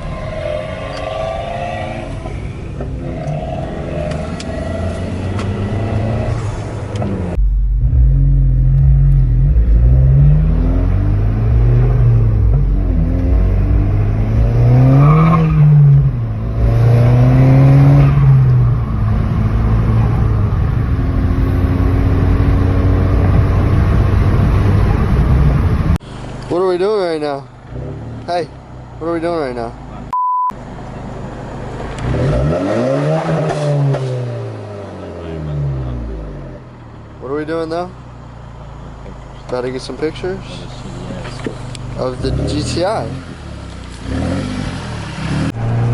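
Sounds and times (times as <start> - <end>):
turbocharged car engine revving: 0.0 - 26.0, 31.6 - 36.7, 39.5 - 45.9.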